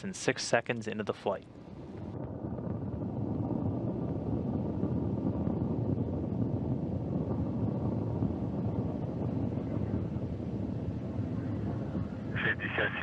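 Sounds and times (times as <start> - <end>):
rocket engines crackling rumble: 0.0 - 13.0.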